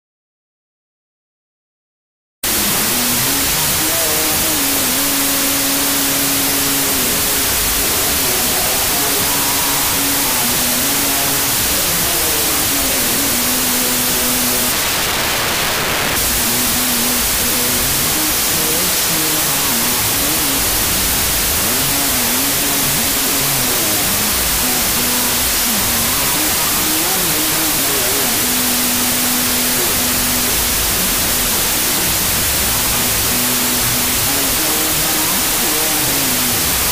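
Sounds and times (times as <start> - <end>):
loud steady hiss: 2.4 - 36.9.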